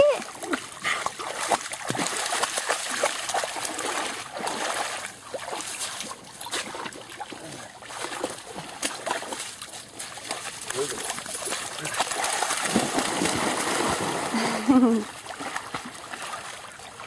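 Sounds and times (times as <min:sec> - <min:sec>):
dog splashing through water: 0:00.0 - 0:17.0.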